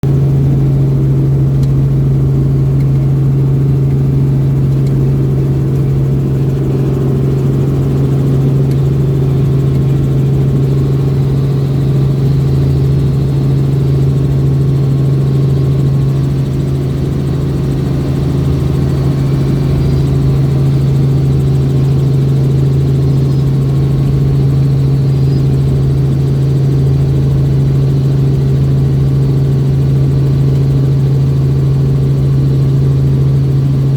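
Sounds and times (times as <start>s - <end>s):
helicopter engine hum: 0.0s - 33.9s
helicopter rotor noise: 0.0s - 33.9s.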